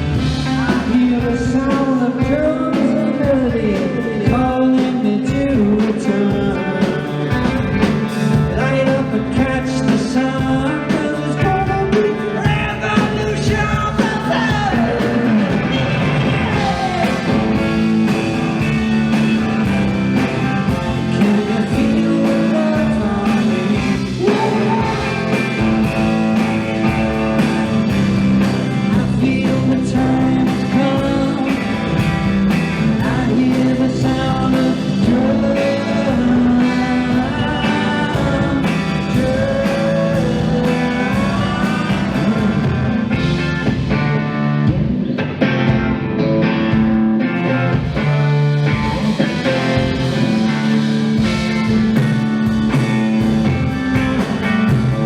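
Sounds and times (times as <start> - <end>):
person singing: 0.0 - 18.2, 20.4 - 43.6, 47.2 - 55.0
steady drum beat: 0.0 - 45.0, 47.8 - 55.0
bass guitar: 0.0 - 55.0
electric guitars: 0.0 - 55.0.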